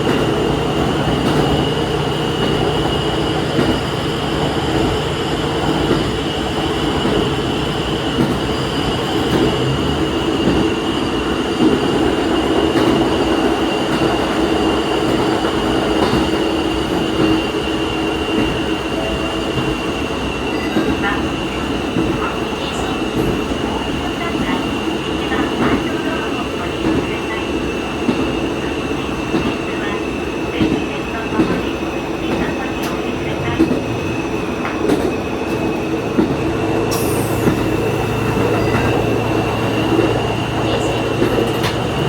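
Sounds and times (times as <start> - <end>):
train engine and wheels drone: 0.0 - 42.0.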